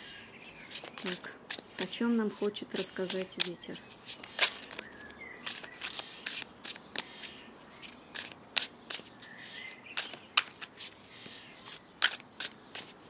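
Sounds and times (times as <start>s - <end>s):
cards being shuffled: 0.4s - 13.0s.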